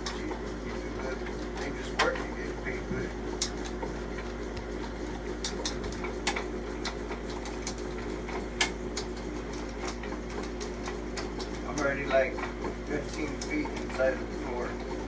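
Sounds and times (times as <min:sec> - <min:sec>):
cable clicking and ticking: 0:00.0 - 0:15.0
drain snake motor hum: 0:00.0 - 0:15.0.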